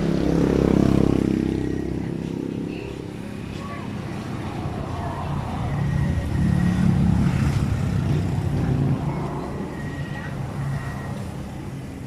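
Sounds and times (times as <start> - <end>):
vehicle engine rumble passing: 0.0 - 12.0.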